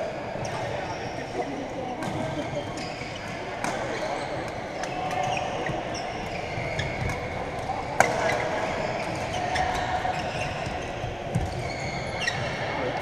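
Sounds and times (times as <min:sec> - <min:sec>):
murmur of sports hall: 0:00.0 - 0:13.0.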